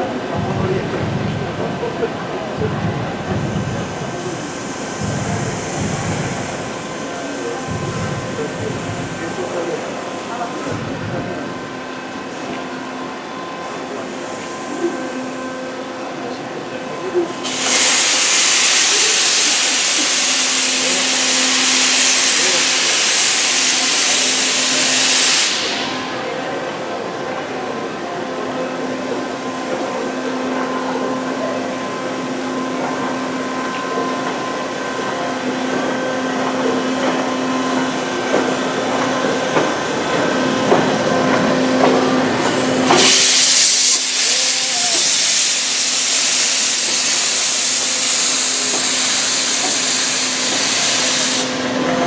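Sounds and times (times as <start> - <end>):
locomotive hissing steam: 0.0 - 52.0.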